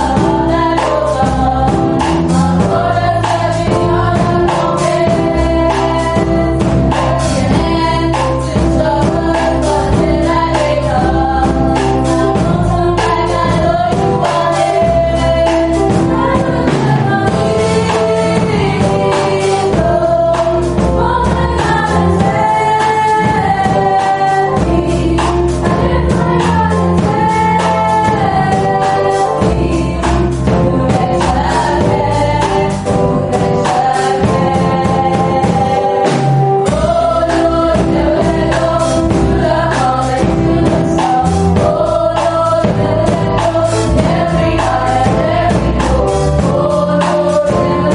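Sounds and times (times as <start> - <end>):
choir singing a gospel hymn: 0.0 - 47.9
instrumental accompaniment with beat: 0.0 - 47.9.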